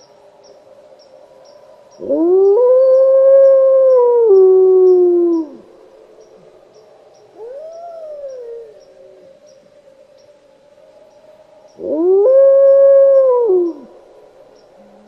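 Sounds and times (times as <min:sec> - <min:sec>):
wolves howling: 0:00.4 - 0:09.8, 0:10.8 - 0:15.0.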